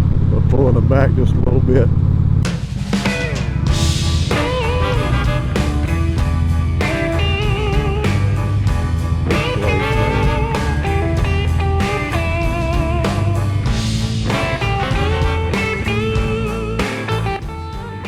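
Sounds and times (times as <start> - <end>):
blues-rock music: 2.4 - 18.0.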